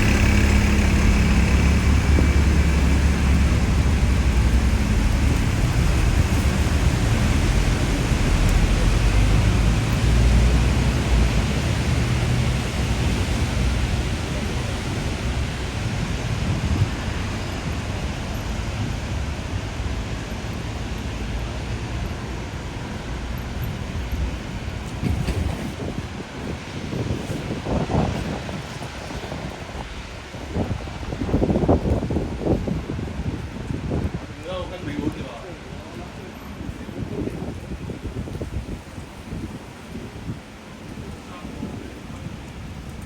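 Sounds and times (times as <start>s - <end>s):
strong wind blowing: 0.0s - 43.0s
wind buffeting microphone: 0.0s - 43.0s.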